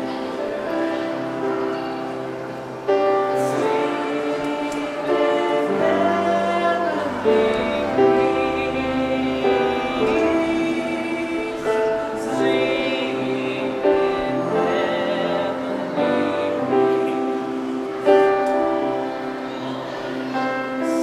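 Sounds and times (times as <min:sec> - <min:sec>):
backing music: 0:00.0 - 0:21.0
group singing a holiday song: 0:00.0 - 0:21.0.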